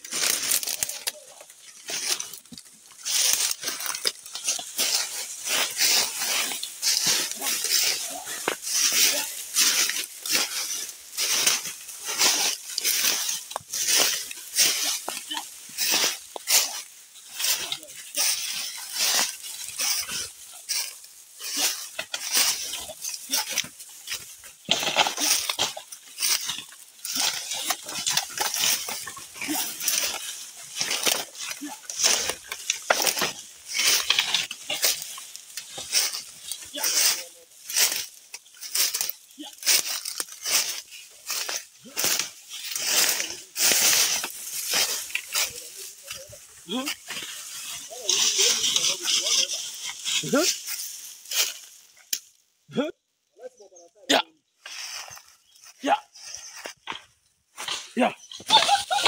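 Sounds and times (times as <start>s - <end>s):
leaves and twigs rustling underfoot: 0.0s - 59.0s.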